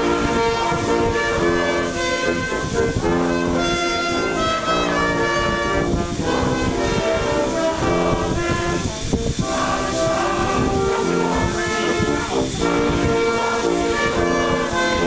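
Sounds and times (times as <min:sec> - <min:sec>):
band playing held chords: 0:00.0 - 0:15.0.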